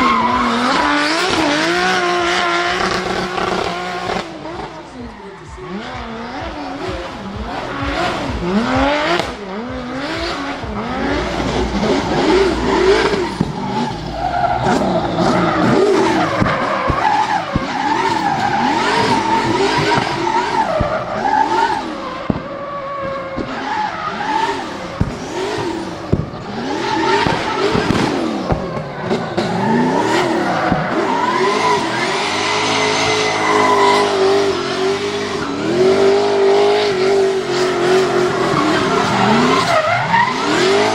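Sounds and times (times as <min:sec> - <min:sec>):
car engine revving hard: 0:00.0 - 0:40.9
tyres squealing: 0:00.0 - 0:40.9.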